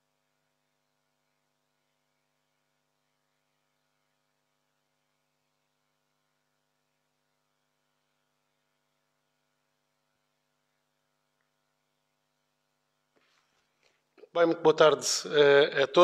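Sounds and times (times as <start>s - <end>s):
faint steady hum and hiss: 0.0s - 16.0s.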